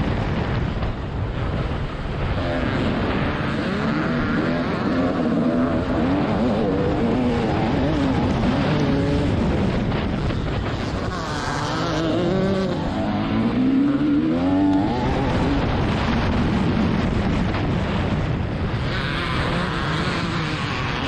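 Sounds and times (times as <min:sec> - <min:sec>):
two-stroke motorbike engine revving: 0:02.3 - 0:21.0.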